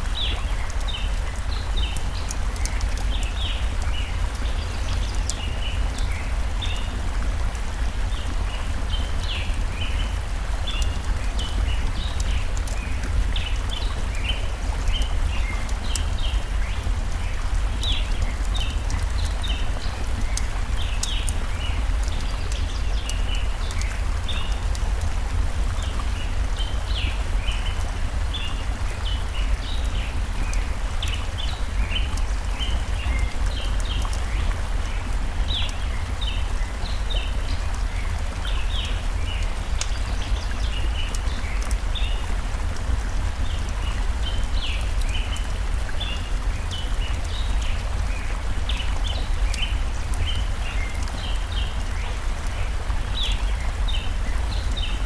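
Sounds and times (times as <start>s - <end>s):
campfire crackling: 0.0s - 54.8s
small birds chirping: 0.0s - 55.0s
stream water running: 0.0s - 55.0s.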